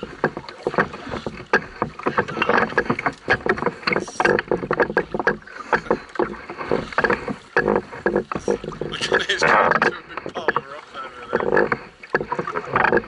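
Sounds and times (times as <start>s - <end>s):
knocks on canoe hull: 0.0s - 13.0s
water noise: 0.0s - 13.0s.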